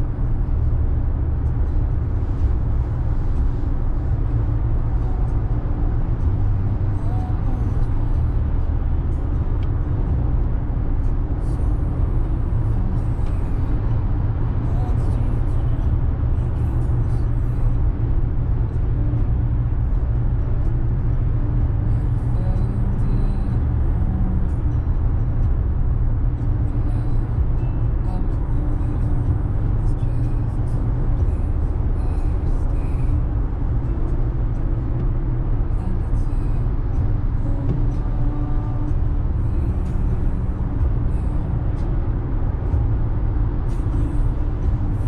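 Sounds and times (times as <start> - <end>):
car cabin road and engine rumble: 0.0 - 45.0.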